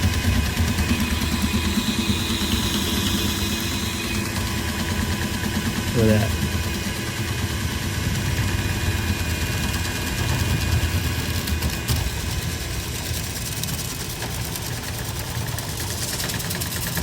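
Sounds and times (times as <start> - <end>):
cleaning machine motor humming: 0.0 - 17.0.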